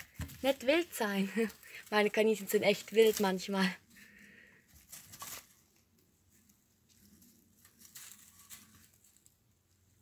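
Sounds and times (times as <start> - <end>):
straw bedding rustling: 0.0 - 10.0.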